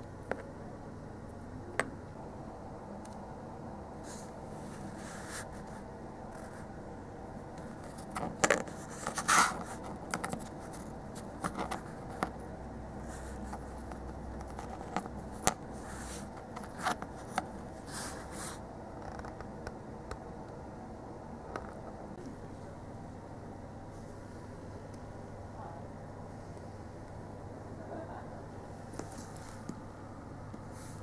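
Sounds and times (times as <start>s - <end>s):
low room hiss: 0.0s - 31.0s.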